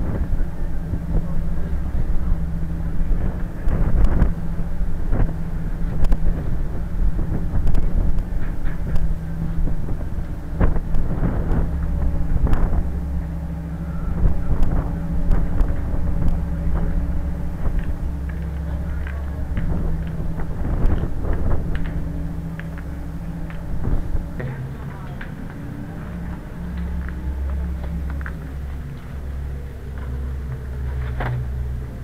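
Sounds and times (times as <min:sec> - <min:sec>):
ship engine droning: 0:00.0 - 0:32.0
wind on microphone: 0:00.0 - 0:32.0.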